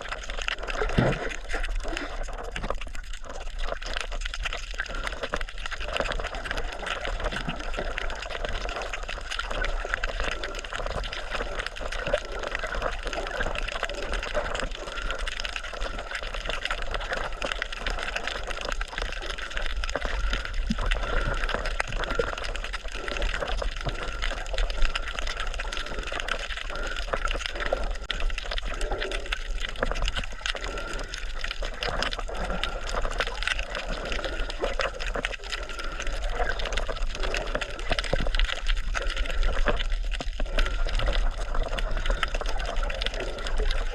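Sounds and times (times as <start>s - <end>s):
crackle of drops and bubbles: 0.0s - 43.9s
water sloshing and splashing: 0.0s - 43.9s.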